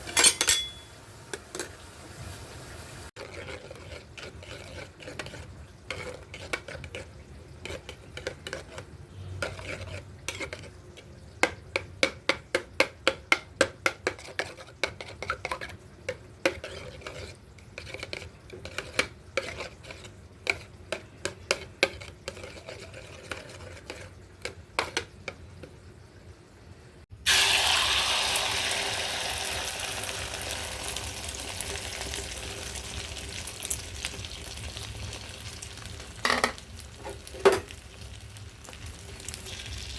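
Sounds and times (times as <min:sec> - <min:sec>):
eggs sizzling in hot oil: 0:00.0 - 0:26.3, 0:27.0 - 0:39.9.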